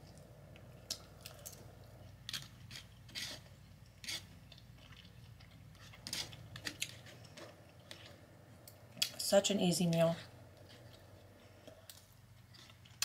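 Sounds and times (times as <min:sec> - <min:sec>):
person chewing food: 0:00.0 - 0:09.2, 0:10.4 - 0:13.0.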